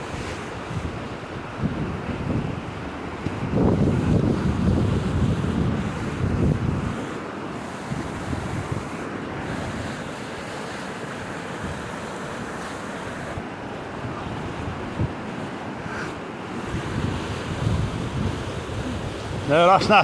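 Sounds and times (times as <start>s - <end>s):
wind buffeting microphone: 0.0s - 10.6s, 11.2s - 20.0s
river rushing: 0.0s - 20.0s.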